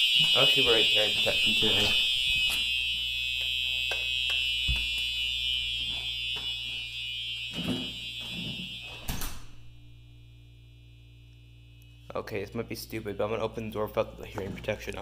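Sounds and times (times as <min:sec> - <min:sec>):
fire alarm horn steady tone: 0:00.0 - 0:13.8.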